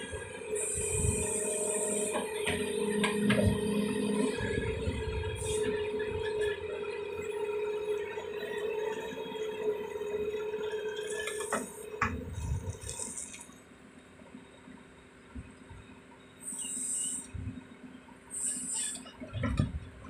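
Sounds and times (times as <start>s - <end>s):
excavator engine and hydraulic whine: 0.0s - 20.0s.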